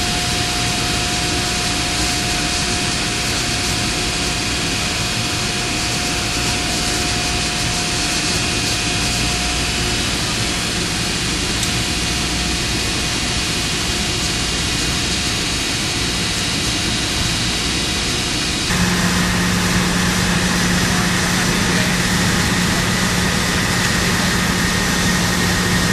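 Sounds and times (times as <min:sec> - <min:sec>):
industrial machinery roar: 0:00.0 - 0:25.9
steady low hum: 0:00.0 - 0:25.9.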